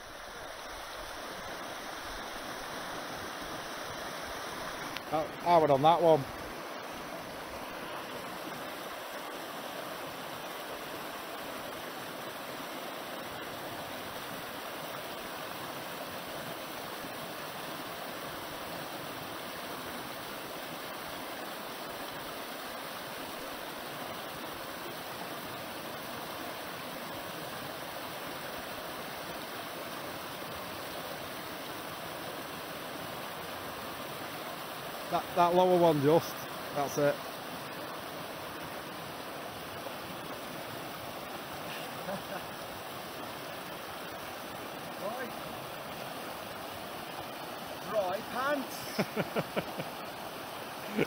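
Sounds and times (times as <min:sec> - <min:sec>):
water rushing over boulders: 0:00.0 - 0:51.0.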